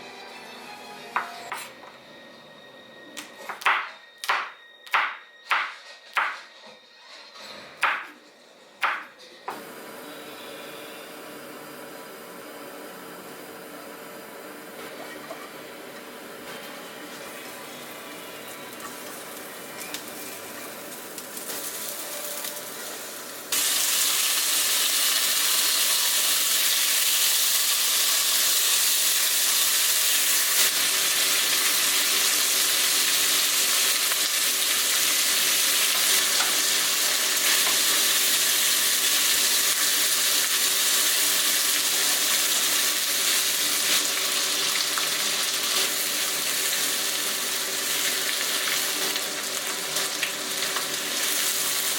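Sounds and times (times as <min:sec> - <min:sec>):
food sizzling in a pan: 0:09.6 - 0:51.9.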